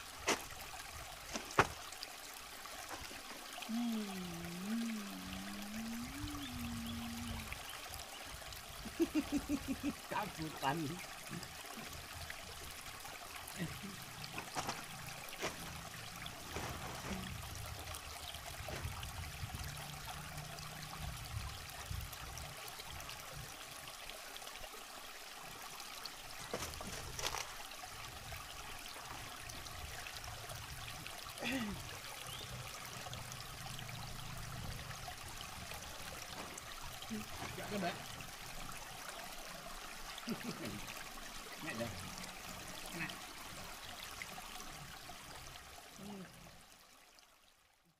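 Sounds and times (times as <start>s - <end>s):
river water flowing: 0.0s - 47.8s.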